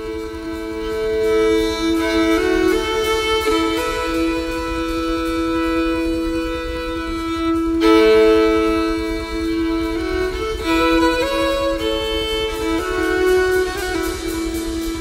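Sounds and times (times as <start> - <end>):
fiddle playing slow melody: 0.0 - 15.0.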